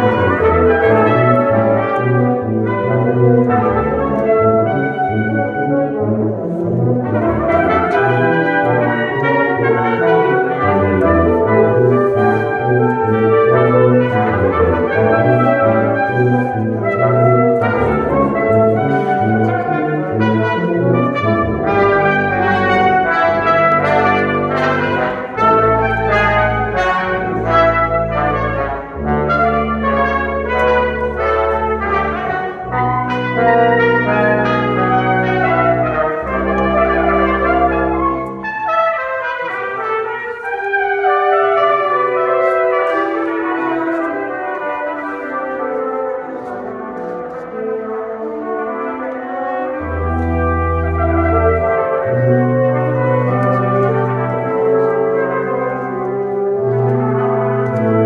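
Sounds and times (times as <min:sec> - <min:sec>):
brass quintet playing: 0:00.0 - 0:58.0.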